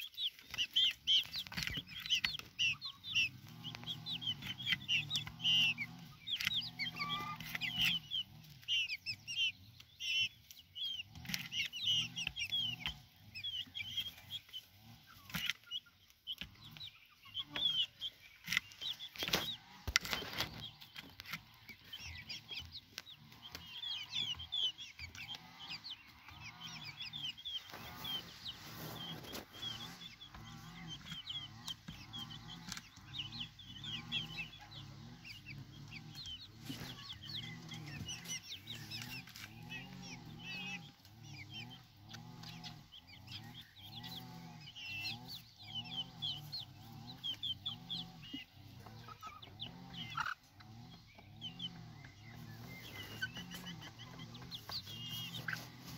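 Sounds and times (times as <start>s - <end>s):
chicks peeping: 0.0s - 55.9s
low clucks: 0.0s - 55.9s.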